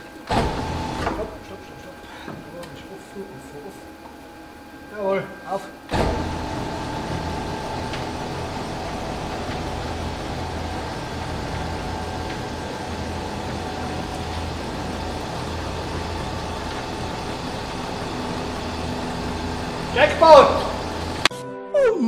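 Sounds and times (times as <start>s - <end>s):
vehicle lift motor humming: 0.0s - 5.1s, 5.7s - 21.3s.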